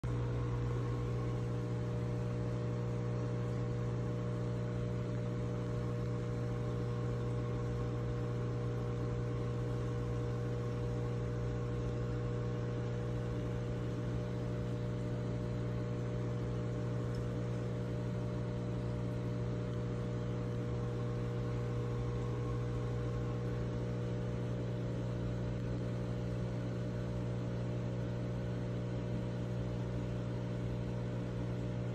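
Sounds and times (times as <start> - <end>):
aquarium pump humming: 0.0 - 31.9.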